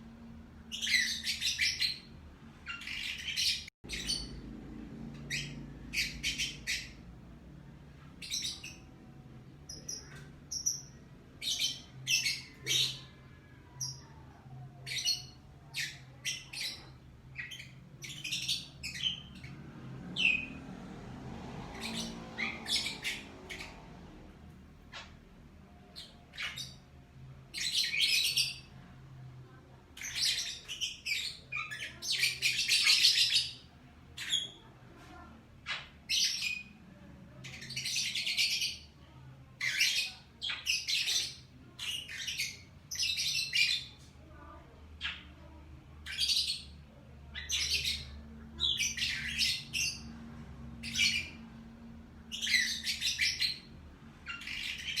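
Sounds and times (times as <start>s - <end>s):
lovebirds chattering and chirping: 0.1s - 20.8s, 21.5s - 55.0s.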